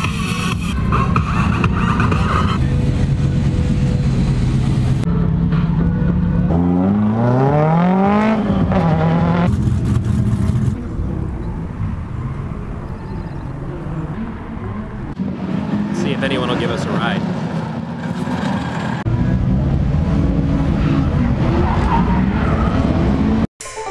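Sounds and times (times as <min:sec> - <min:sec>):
car engines idling: 0:00.0 - 0:07.2, 0:07.9 - 0:22.3
car engine revving: 0:00.0 - 0:23.5.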